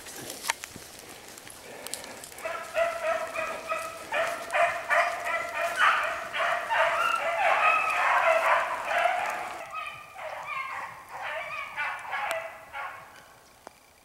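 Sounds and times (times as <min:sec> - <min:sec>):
hounds baying: 0:01.6 - 0:13.2.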